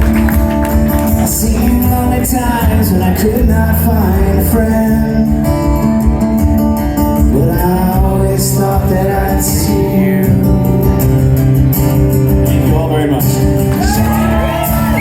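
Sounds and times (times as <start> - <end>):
guitar playing: 0.0 - 15.0.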